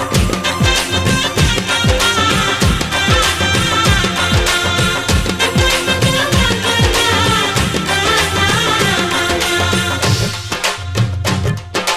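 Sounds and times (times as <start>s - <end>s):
melodic instruments: 0.0s - 10.6s
deep drum beat: 0.0s - 11.9s.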